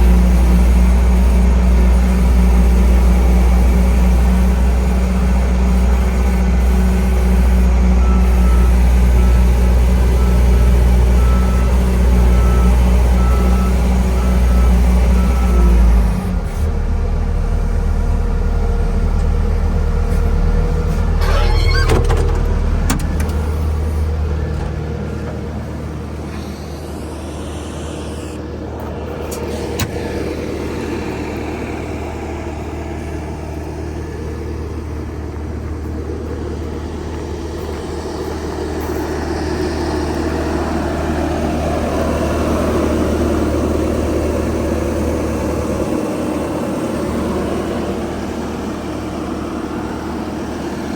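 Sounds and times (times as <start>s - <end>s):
loader diesel engine running: 0.0s - 50.9s.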